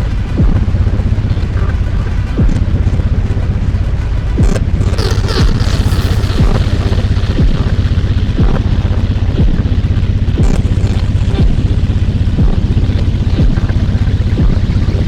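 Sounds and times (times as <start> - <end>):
deep kick drum: 0.0 - 15.0
electronic ambient music: 0.0 - 15.0
low pulsing bass drone: 0.0 - 15.0.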